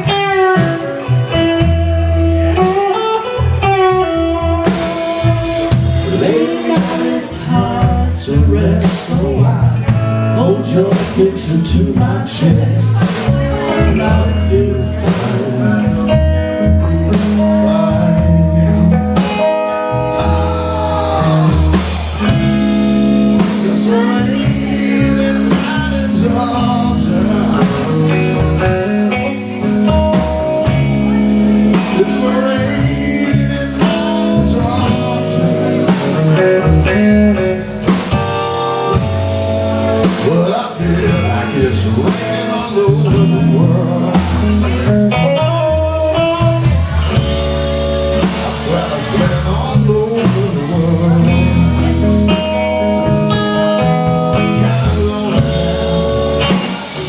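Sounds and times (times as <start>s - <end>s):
blues band playing: 0.0s - 57.0s
guitar: 0.0s - 57.0s.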